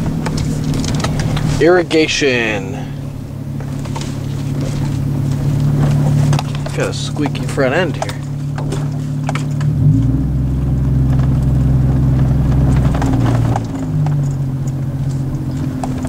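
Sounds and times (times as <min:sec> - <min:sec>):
car engine: 0:00.0 - 0:16.0
road noise: 0:00.0 - 0:16.0.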